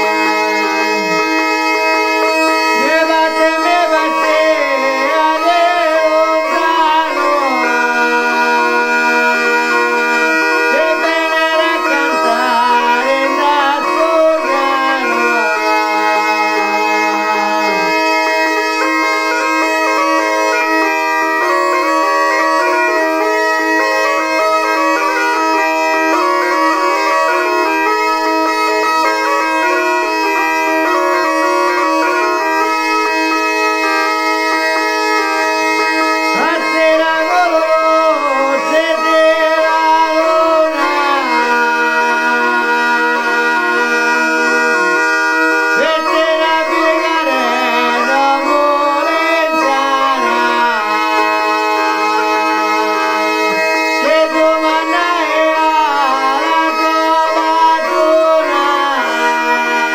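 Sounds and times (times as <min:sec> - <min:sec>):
man singing with vibrato: 0:00.0 - 0:33.8, 0:34.4 - 0:59.9
bagpipe drones and chanter melody: 0:00.0 - 0:59.9.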